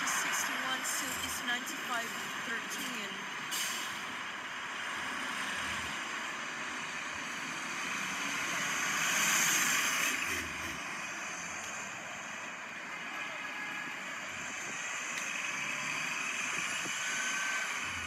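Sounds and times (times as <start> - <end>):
vehicle passing on street: 0.0 - 18.0.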